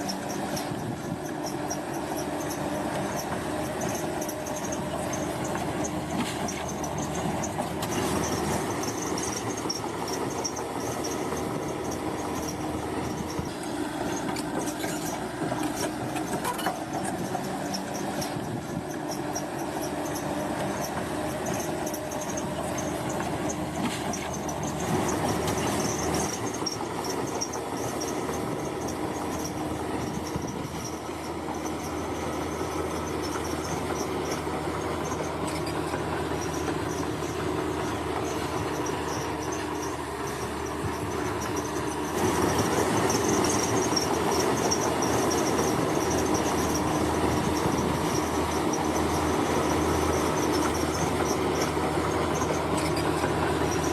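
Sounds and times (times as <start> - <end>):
bulldozer diesel engine under load: 0.0 - 53.9
steel tracks clanking: 0.0 - 53.9.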